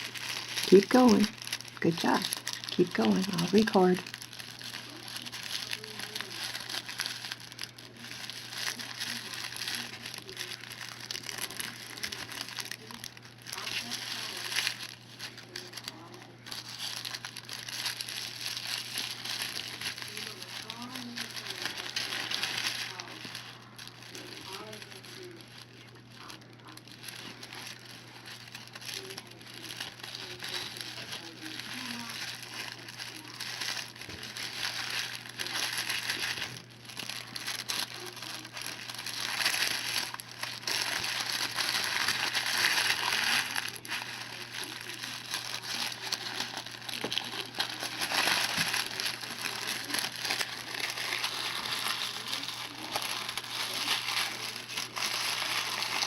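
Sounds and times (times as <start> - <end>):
faint low hum: 0.0 - 56.0
tablecloth crinkling: 0.0 - 56.0.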